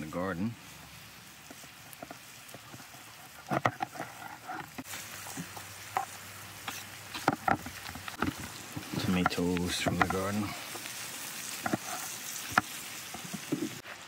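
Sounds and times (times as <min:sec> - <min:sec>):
faint sizzle: 0:00.0 - 0:14.0.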